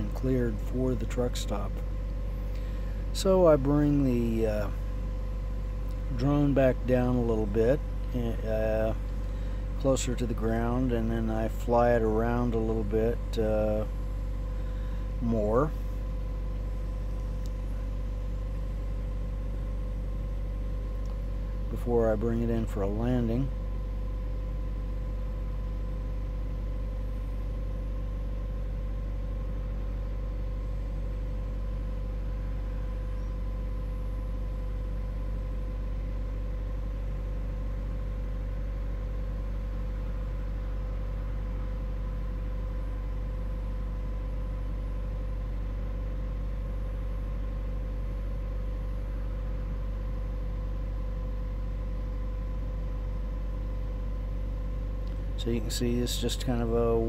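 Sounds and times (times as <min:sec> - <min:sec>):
constant mid-pitched tone: 0:00.0 - 0:57.0
low machine hum: 0:00.0 - 0:57.0.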